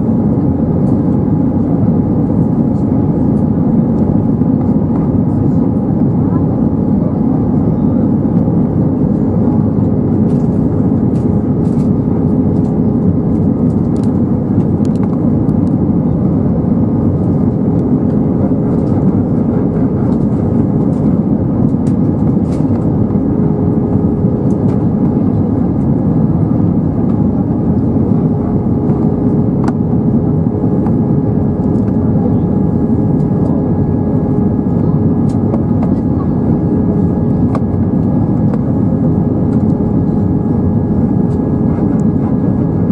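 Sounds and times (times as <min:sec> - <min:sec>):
airplane cabin rumble: 0:00.0 - 0:42.9.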